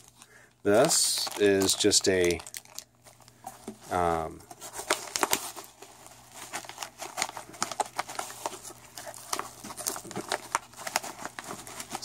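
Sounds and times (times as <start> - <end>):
plastic wrapping crackling: 0.0 - 12.0.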